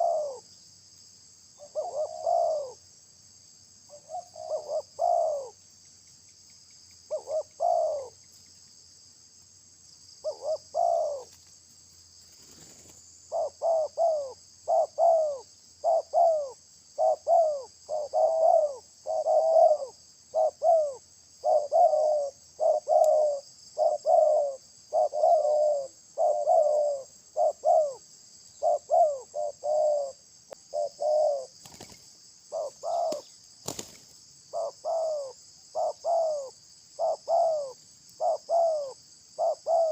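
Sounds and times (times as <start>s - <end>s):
dove cooing: 0.0s - 0.4s, 1.6s - 2.8s, 3.9s - 5.6s, 7.1s - 8.2s, 10.2s - 11.4s, 12.5s - 33.9s, 34.5s - 39.9s
high insect buzz: 0.0s - 39.9s.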